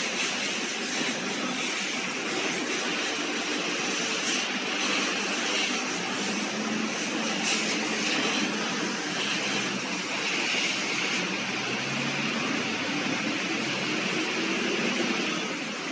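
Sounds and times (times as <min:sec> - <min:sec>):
washing machine running: 0:00.0 - 0:15.9.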